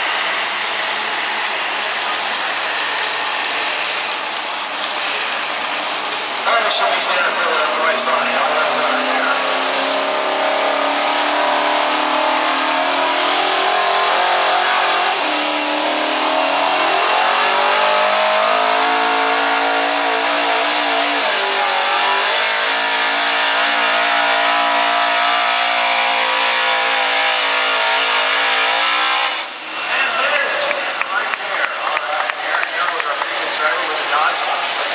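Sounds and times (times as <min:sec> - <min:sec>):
pickup engine at full throttle: 0:00.0 - 0:34.9.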